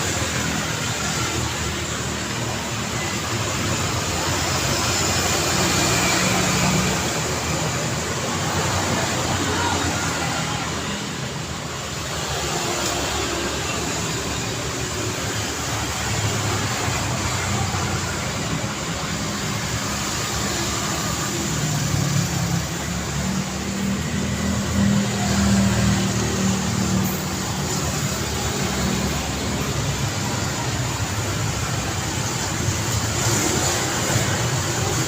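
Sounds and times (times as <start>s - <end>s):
car engines and tyre noise: 0.0s - 35.0s.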